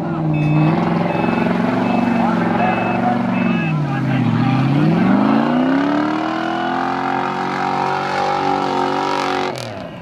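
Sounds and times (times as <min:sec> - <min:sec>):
engine revving: 0:00.0 - 0:10.0.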